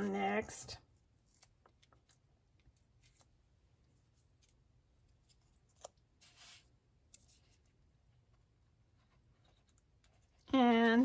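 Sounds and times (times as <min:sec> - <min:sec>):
soft paper rustle: 0:00.8 - 0:10.5.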